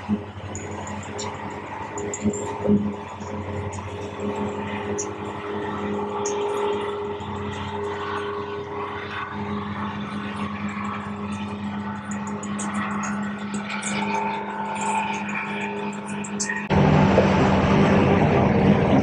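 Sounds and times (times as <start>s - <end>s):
engines droning: 0.0s - 19.0s.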